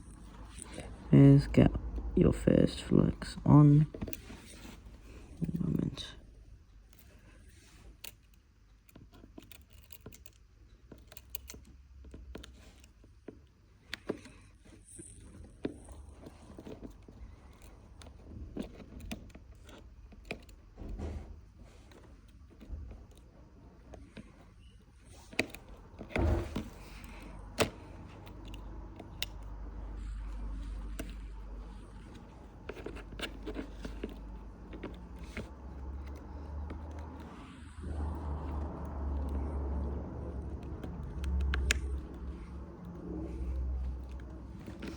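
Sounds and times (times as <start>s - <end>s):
tools clicking and scraping: 6.8s - 20.8s, 21.6s - 44.9s.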